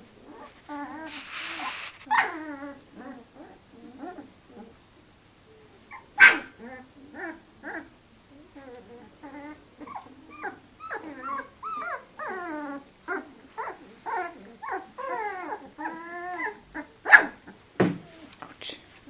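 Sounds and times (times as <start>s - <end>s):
puppies squeaking and whining: 0.2s - 4.7s, 5.9s - 18.4s.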